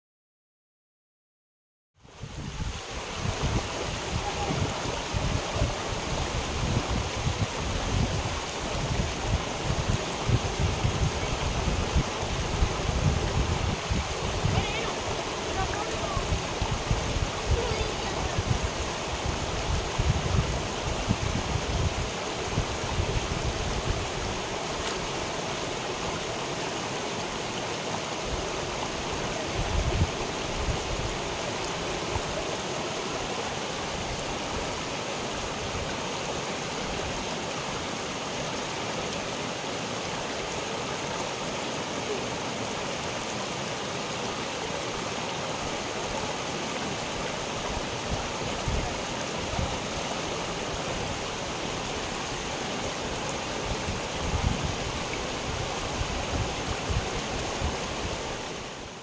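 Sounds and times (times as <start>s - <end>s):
stream rushing over stones: 2.0s - 59.0s.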